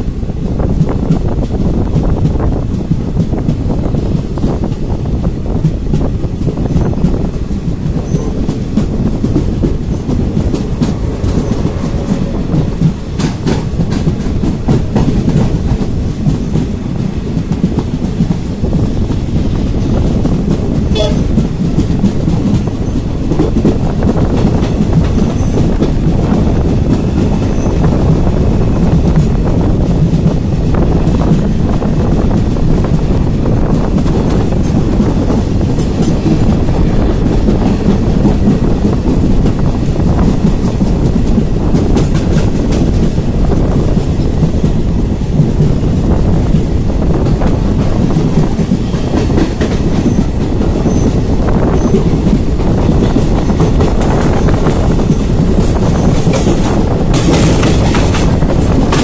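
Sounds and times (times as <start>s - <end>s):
train wheels rumbling on rails: 0.0s - 59.0s
wheels clicking over rail joints: 0.8s - 59.0s.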